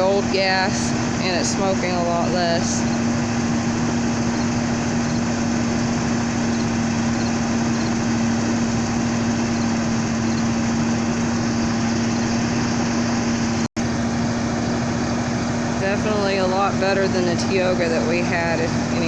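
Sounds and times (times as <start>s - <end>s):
motorhome engine idling: 0.0s - 19.0s.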